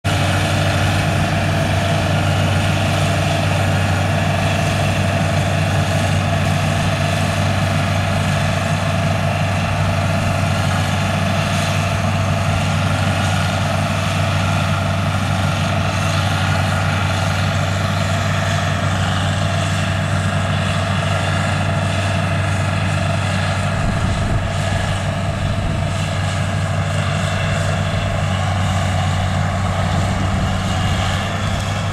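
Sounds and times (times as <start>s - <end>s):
combine harvester drone: 0.0s - 31.9s.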